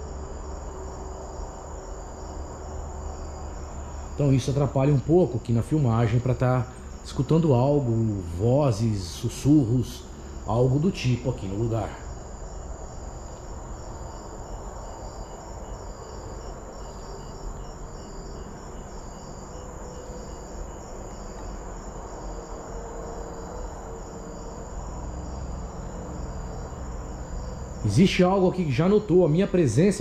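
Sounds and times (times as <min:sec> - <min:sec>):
crickets chirping: 0:00.0 - 0:30.0
low rumble of road traffic: 0:00.0 - 0:30.0.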